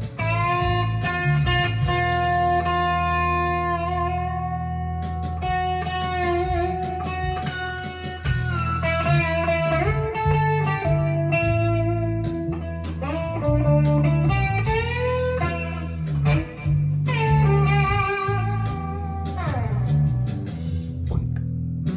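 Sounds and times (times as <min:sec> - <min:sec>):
fuzzy electric guitar lead: 0:00.0 - 0:21.9.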